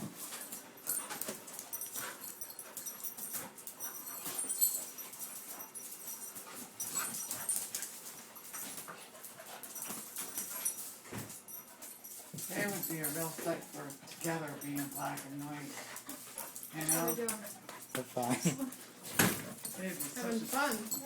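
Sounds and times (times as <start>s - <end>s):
puppies scuffling: 0.0s - 21.0s
puppies panting: 0.1s - 21.0s.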